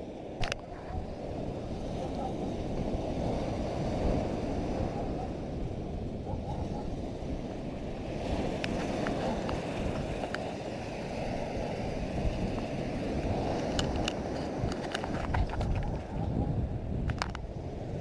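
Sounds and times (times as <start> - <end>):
surf breaking on shore: 0.0 - 16.2
wind buffeting microphone: 0.0 - 18.0.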